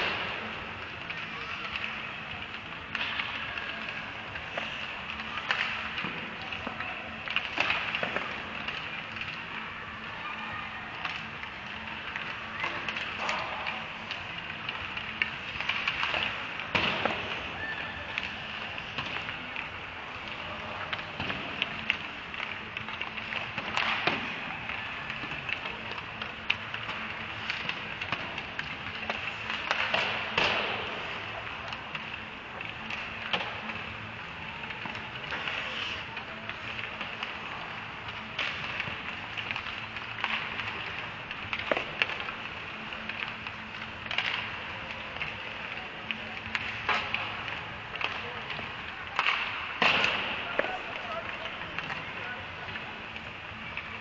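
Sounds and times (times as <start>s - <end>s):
sticks clacking on puck: 0.0s - 10.1s, 10.9s - 54.0s
low rink hum: 0.0s - 54.0s
skate blades scraping ice: 0.0s - 54.0s.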